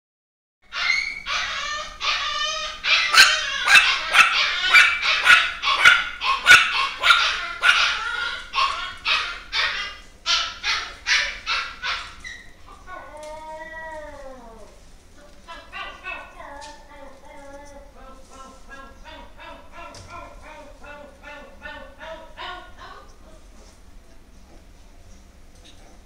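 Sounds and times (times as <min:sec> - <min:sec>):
dog yapping: 0:00.7 - 0:14.6, 0:15.5 - 0:23.4.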